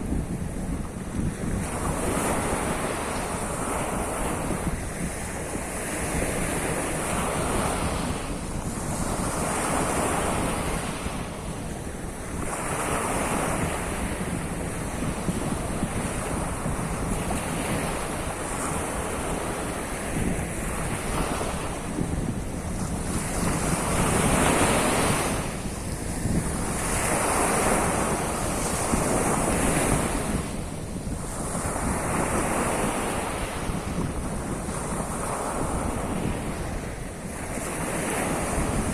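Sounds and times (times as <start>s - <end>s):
waves breaking on shore: 0.0s - 38.9s
wind buffeting microphone: 0.0s - 38.9s.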